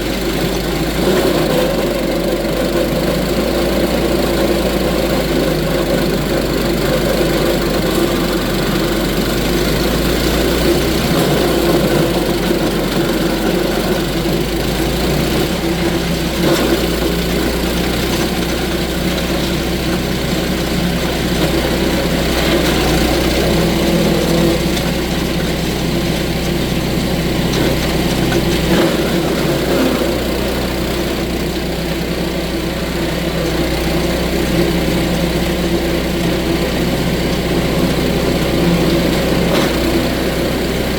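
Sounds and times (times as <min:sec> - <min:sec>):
wood chipper engine running: 0:00.0 - 0:40.9.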